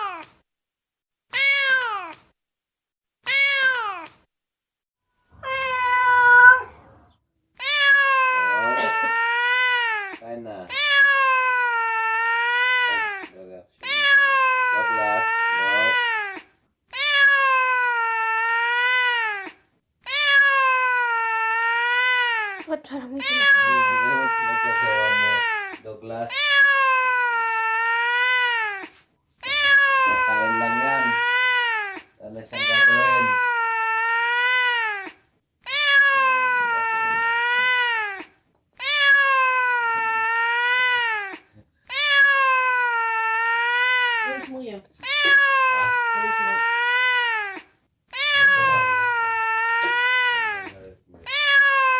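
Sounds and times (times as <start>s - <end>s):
cat meowing: 0.0s - 0.4s, 1.3s - 2.2s, 3.2s - 4.2s, 5.4s - 51.9s.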